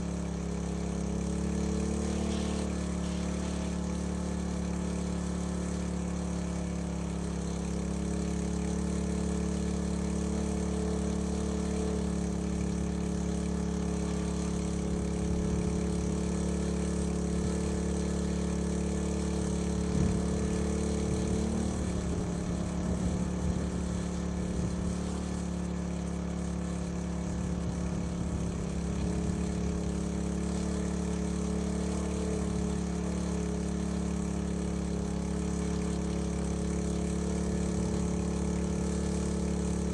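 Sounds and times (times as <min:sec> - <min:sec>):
water pump engine running: 0:00.0 - 0:39.9.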